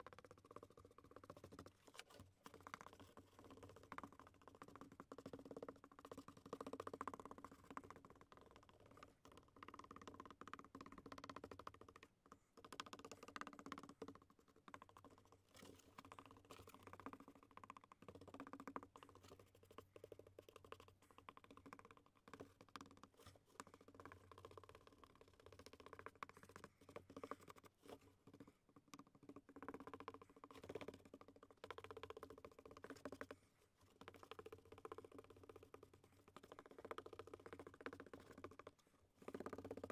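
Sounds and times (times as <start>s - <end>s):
taps and scratches on cardboard: 0.0s - 39.9s.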